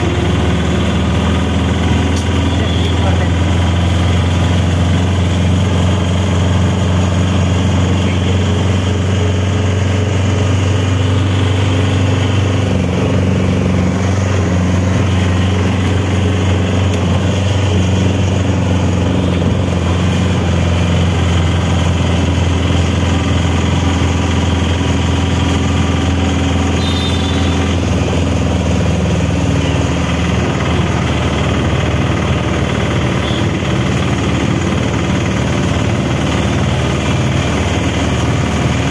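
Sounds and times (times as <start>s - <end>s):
road and wind noise: 0.0s - 38.9s
vehicle engine humming: 0.0s - 38.9s.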